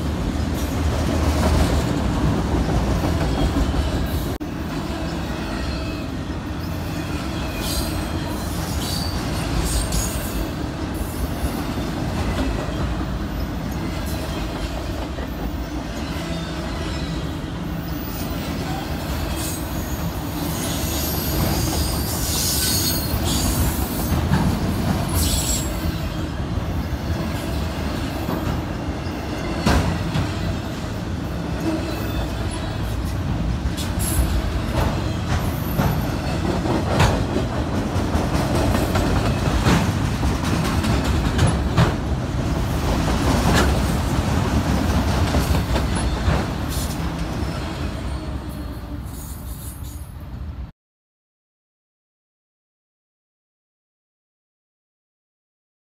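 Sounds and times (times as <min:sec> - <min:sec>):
train clacks and clunks: 0:00.0 - 0:50.2
freight train rumbling past: 0:00.0 - 0:50.7.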